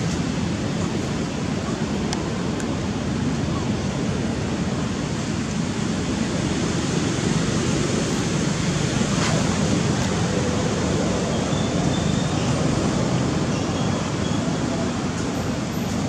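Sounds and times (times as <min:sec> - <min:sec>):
outdoor rushing noise: 0:00.0 - 0:16.0.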